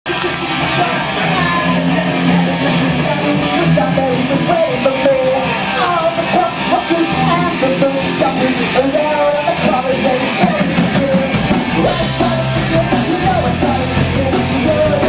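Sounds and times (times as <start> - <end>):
bass guitar: 0.0 - 15.0
distorted electric guitars: 0.0 - 15.0
drum kit fast beat: 0.0 - 15.0.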